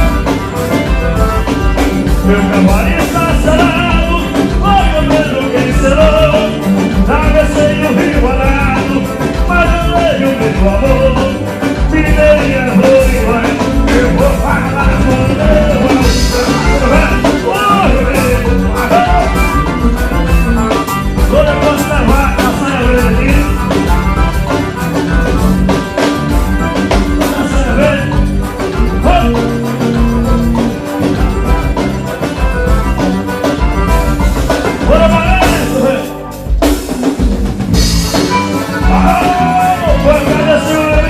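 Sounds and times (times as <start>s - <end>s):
band music: 0.0s - 41.0s
steady drum beat: 0.0s - 41.0s.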